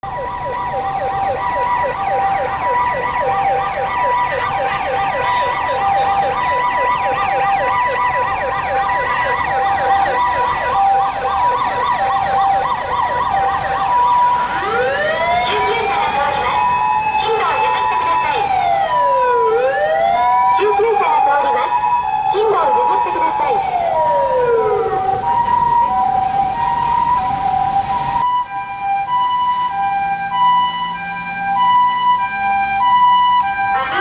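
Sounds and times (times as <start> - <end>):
ambulance siren yelp: 0.0 - 34.0
rising siren tone: 0.0 - 34.0
two-tone siren call: 0.0 - 34.0.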